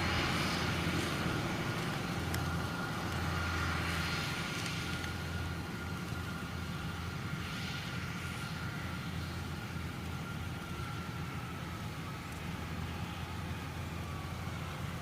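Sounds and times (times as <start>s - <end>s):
combine harvester engine drone: 0.0s - 15.0s
steady thin whine: 0.0s - 15.0s.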